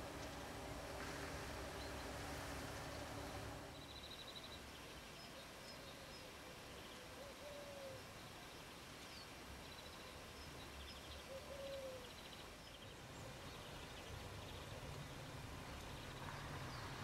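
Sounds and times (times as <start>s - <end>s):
quiet outdoor hiss: 0.0s - 17.0s
songbirds chirping: 0.0s - 17.0s.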